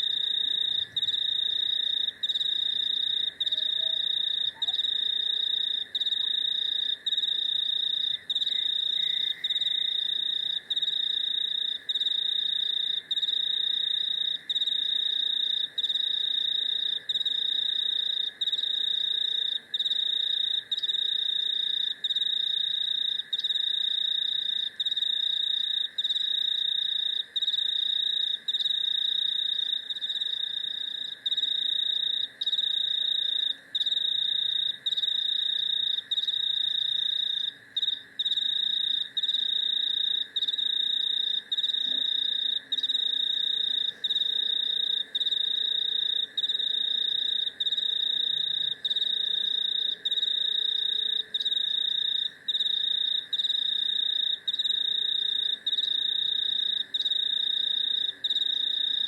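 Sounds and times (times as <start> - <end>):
cricket trilling: 0.0 - 59.0
drone of night insects: 0.0 - 59.0.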